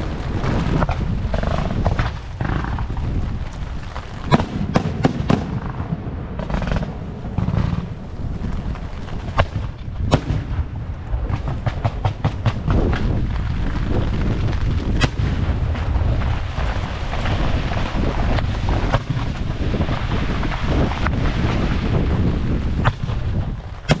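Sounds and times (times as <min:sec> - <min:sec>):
continuous low rumble: 0:00.0 - 0:24.0
fireworks bangs: 0:00.0 - 0:24.0.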